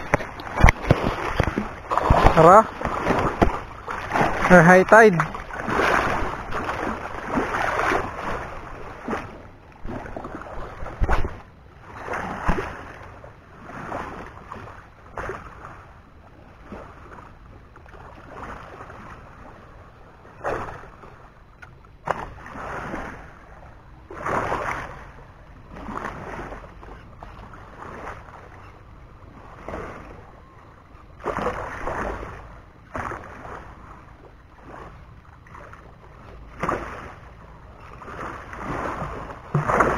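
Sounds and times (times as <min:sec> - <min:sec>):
sea water lapping: 0:00.0 - 0:39.9.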